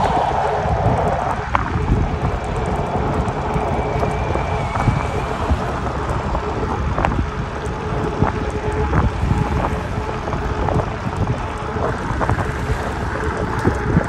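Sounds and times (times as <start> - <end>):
low rumble of moving e-bike: 0.0 - 14.0
wind buffeting microphone: 0.0 - 14.0.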